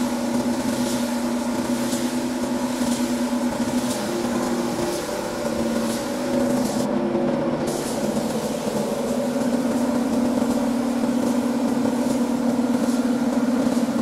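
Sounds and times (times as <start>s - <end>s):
air spray gun hissing: 0.0s - 14.0s
low machine hum: 0.0s - 14.0s.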